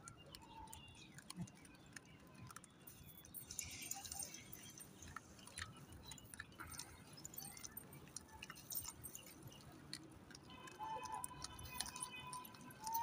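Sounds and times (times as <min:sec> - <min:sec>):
monkeys chewing grain: 0:00.2 - 0:13.0.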